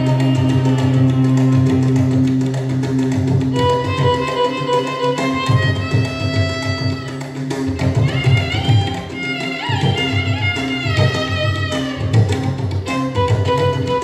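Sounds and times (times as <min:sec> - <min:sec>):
hand drum strokes: 0:00.0 - 0:14.0
violin melody: 0:00.0 - 0:14.0.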